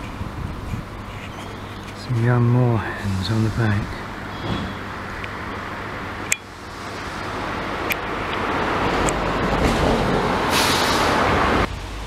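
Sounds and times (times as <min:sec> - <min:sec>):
vehicle passing: 0:01.3 - 0:12.0.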